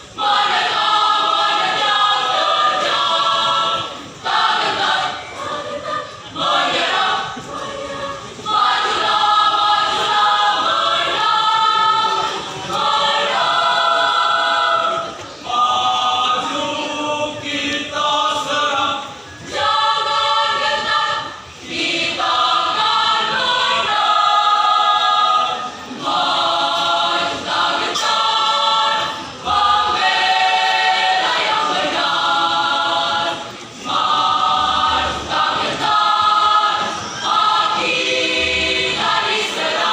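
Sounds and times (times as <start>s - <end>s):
choir singing unaccompanied: 0.0s - 39.9s.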